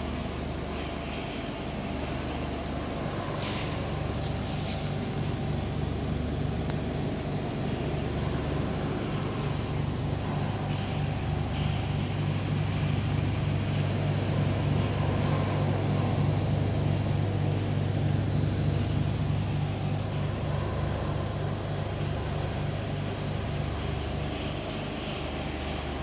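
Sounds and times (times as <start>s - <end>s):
pulsing mechanical hum: 0.0s - 26.0s.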